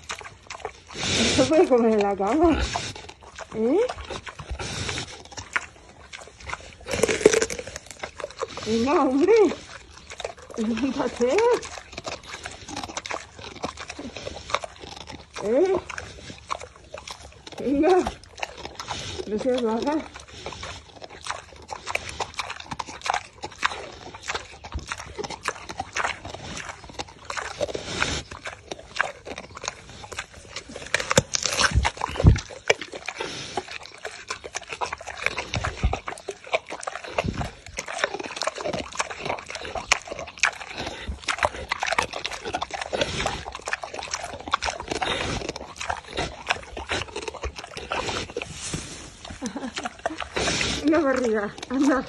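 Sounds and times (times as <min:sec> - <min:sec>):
pig chewing melon: 0:00.0 - 0:52.0.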